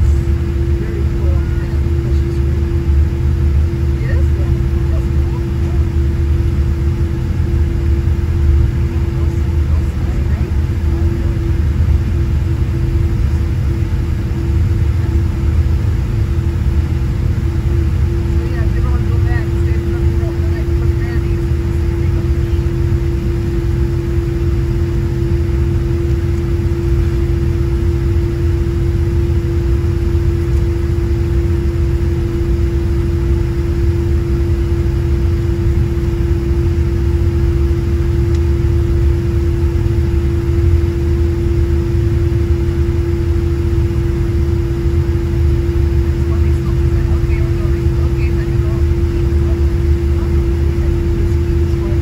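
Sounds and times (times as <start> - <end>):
airplane cabin low rumble: 0.0 - 52.0
steady engine hum: 0.0 - 52.0.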